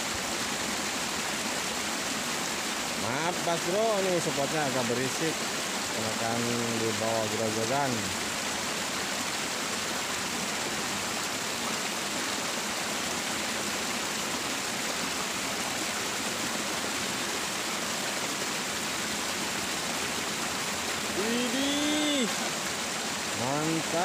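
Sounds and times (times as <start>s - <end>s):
water rushing down cascade: 0.0s - 24.0s.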